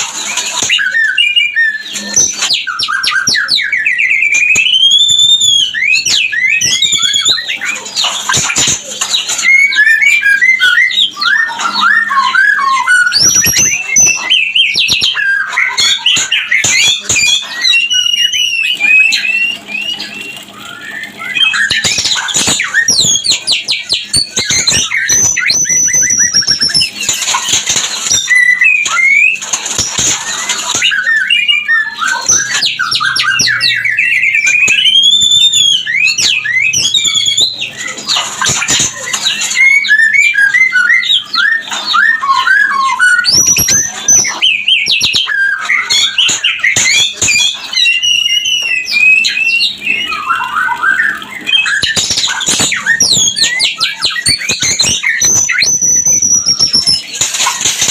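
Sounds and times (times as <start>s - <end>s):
birds whistling and trilling: 0.0s - 57.9s.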